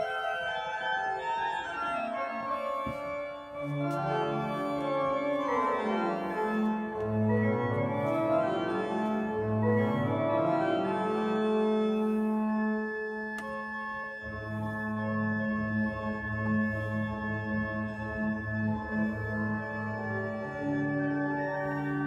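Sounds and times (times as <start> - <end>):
church organ playing chords: 0.0 - 22.0.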